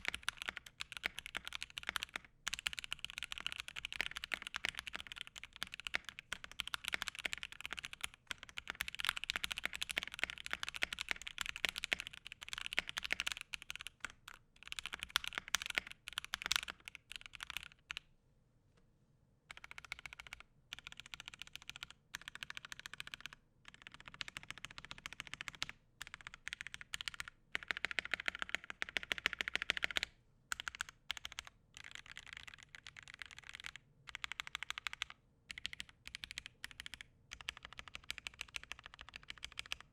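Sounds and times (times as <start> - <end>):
fast typing on mechanical keyboard: 0.0 - 18.0, 19.5 - 39.9.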